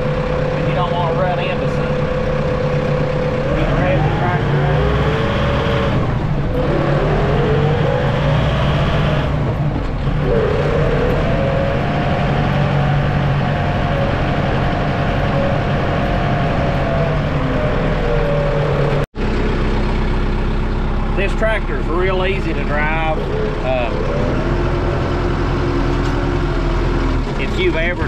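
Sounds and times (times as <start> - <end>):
whining tone: 0.0 - 20.2, 21.2 - 28.0
tractor diesel engine running: 0.0 - 28.0.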